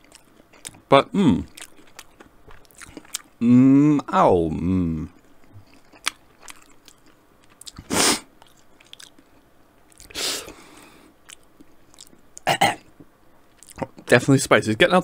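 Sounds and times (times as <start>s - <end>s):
person chewing: 0.0s - 12.8s, 13.4s - 14.1s.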